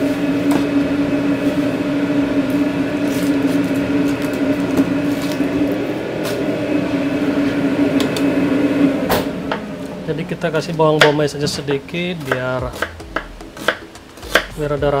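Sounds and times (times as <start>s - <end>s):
kitchen machinery humming: 0.0s - 15.0s.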